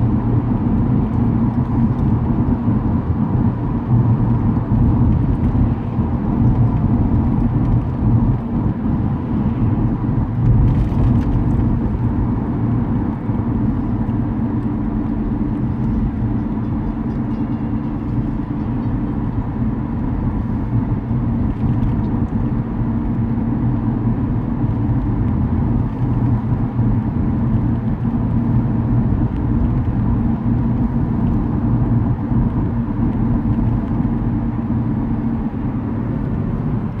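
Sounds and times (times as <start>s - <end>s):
car rumble inside cabin: 0.0s - 37.0s.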